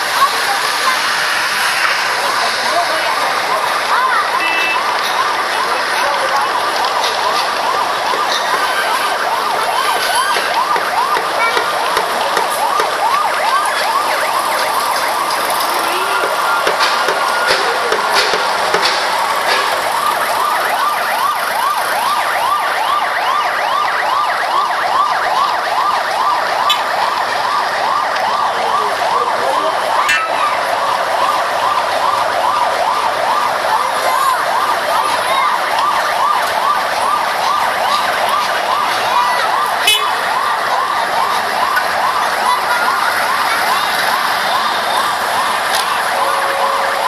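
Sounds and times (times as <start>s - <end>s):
fire engine siren yelping: 0.0s - 47.0s.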